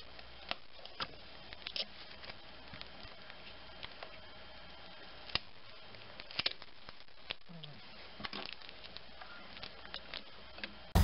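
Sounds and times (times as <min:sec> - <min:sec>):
adhesive tape crackling: 0:00.0 - 0:11.0.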